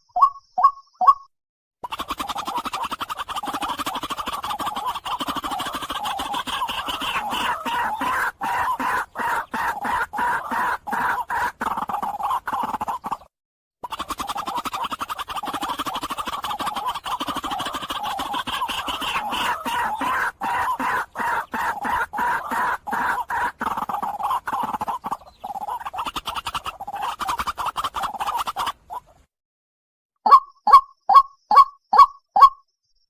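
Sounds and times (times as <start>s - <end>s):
waterhen harsh clucking calls: 1.8s - 29.3s.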